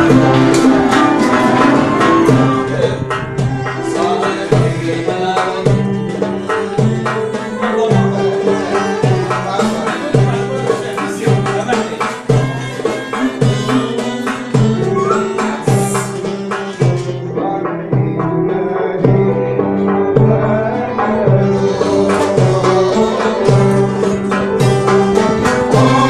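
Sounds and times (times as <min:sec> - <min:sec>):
plucked lute and string instrument: 0:00.0 - 0:26.0.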